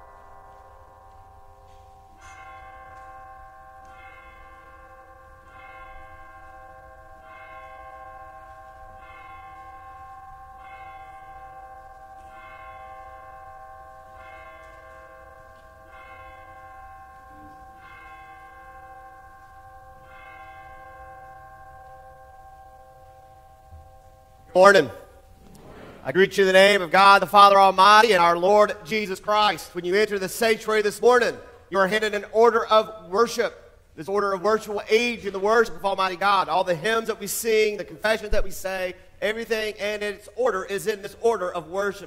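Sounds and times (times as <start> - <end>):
bells tolling: 0.0 - 42.0.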